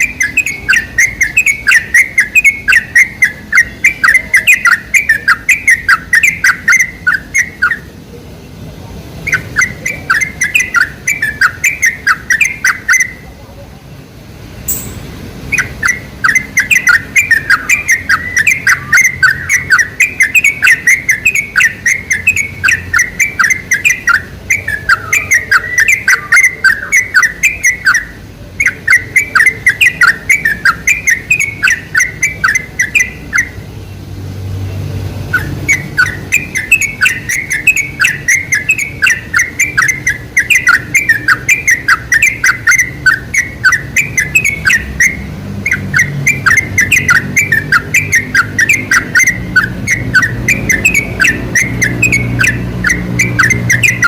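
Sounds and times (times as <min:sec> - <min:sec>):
bulbul singing chattering notes: 0:00.0 - 0:07.9, 0:09.2 - 0:13.4, 0:14.6 - 0:34.0, 0:34.6 - 0:54.0.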